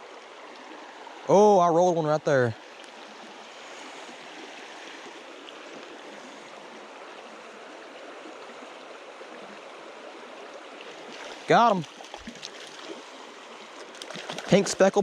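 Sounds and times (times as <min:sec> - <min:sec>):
water flowing over rocks: 0:00.0 - 0:15.0.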